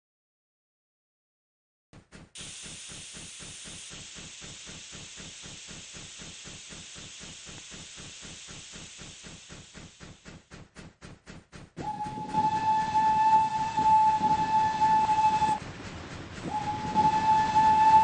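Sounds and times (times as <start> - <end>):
steam locomotive hissing steam: 2.2 - 18.0.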